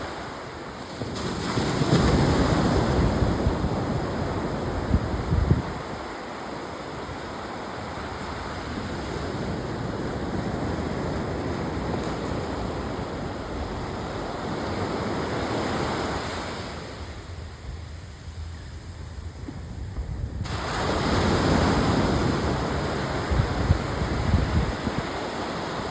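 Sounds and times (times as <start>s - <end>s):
waves breaking on beach: 0.0s - 25.9s
wind buffeting microphone: 0.1s - 25.9s.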